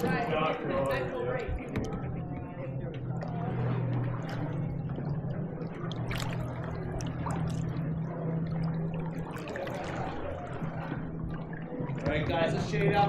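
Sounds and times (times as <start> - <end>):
paddle splashing water: 0.0 - 13.0
steady low hum: 0.0 - 13.0.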